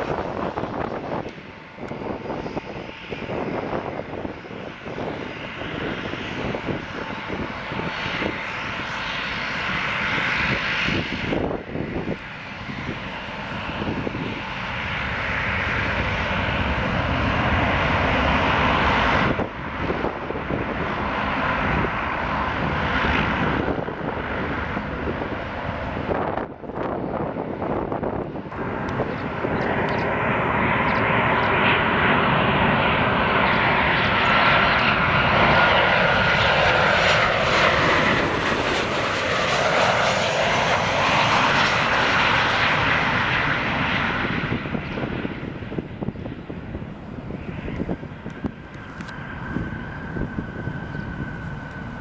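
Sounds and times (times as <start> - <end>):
jet engines rushing: 0.0 - 52.0
turboprop engines and propellers: 0.0 - 52.0.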